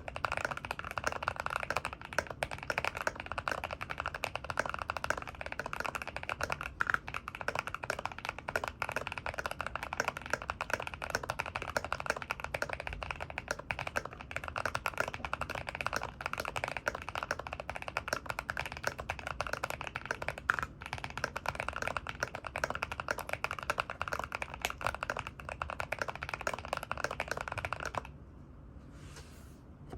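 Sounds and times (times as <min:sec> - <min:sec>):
fast typing on mechanical keyboard: 0:00.0 - 0:28.2.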